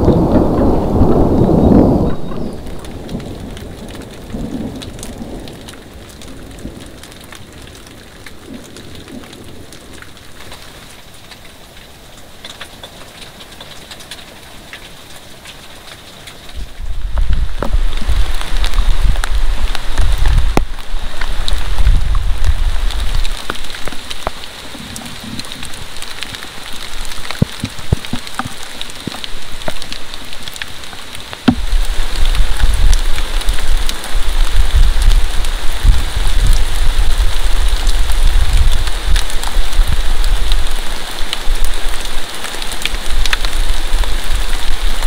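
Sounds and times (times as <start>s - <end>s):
close water drips: 0.0s - 39.8s
steady rain hiss: 0.0s - 45.0s.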